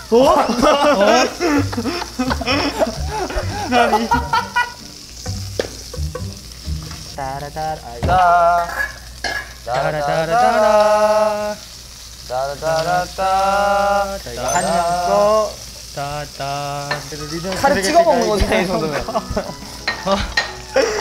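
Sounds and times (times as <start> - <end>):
men humming and singing: 0.0 - 9.0, 9.6 - 21.0
meat sizzling in a pan: 0.0 - 21.0.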